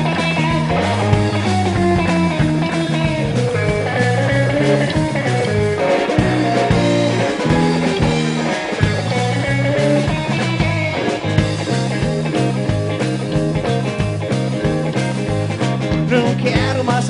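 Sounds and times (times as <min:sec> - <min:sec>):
bass line: 0:00.0 - 0:17.0
electric guitar: 0:00.0 - 0:17.0
steady drum beat: 0:00.0 - 0:17.0.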